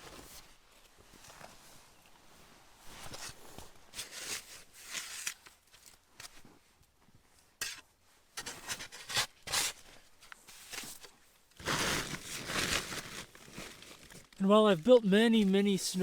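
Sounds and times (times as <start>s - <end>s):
rustling and scraping: 0.0s - 14.4s.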